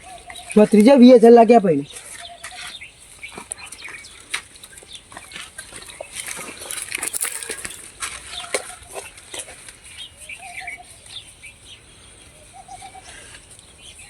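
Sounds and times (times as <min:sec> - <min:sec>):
chickens calling: 0:00.0 - 0:14.0.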